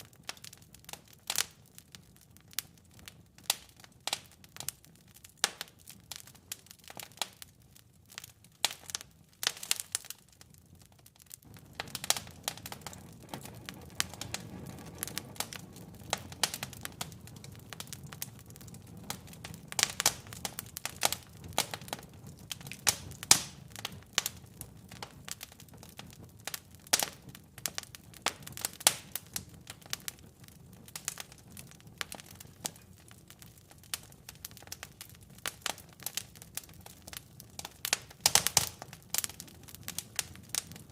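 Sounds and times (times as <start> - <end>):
burning logs popping: 0.0 - 40.9
low rumble of flames: 0.0 - 40.9
wood fire crackling: 0.0 - 40.9.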